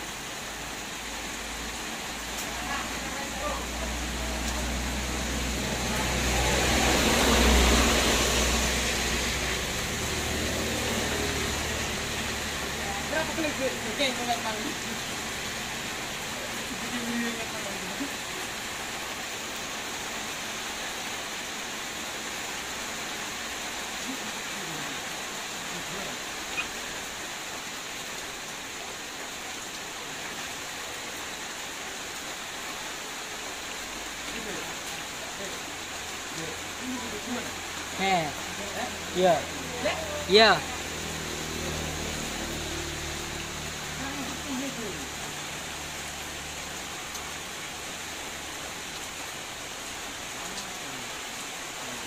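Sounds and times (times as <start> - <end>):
heavy rain on ground and leaves: 0.0 - 52.0.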